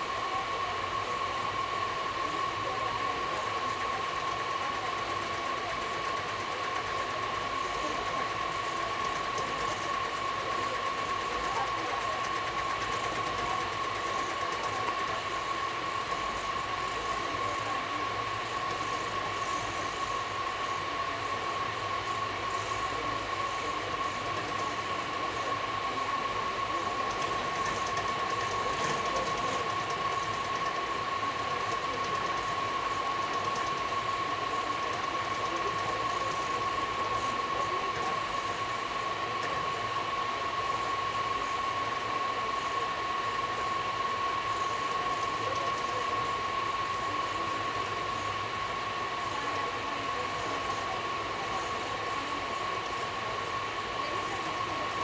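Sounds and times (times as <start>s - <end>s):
train running noise: 0.0s - 55.0s.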